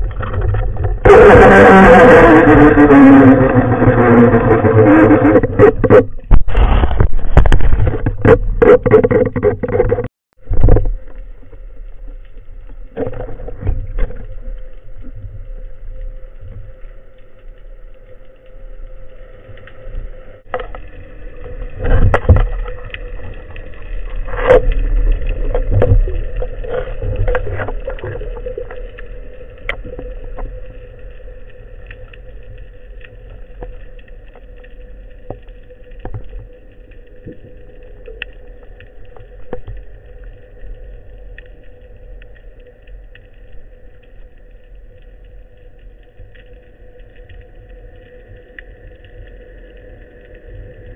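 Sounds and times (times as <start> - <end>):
water moving past underwater: 0.0 - 50.9.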